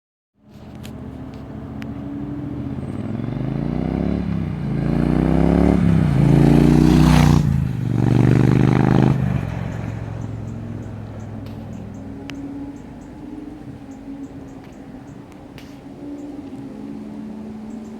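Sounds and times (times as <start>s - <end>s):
motorcycle engine idling and revving: 0.4s - 17.9s.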